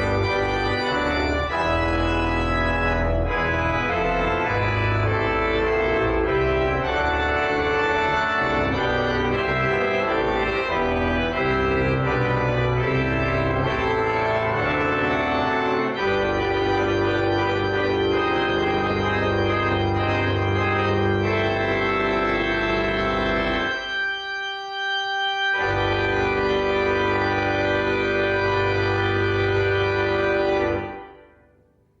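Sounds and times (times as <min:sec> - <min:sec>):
church organ chords: 0:00.0 - 0:31.9.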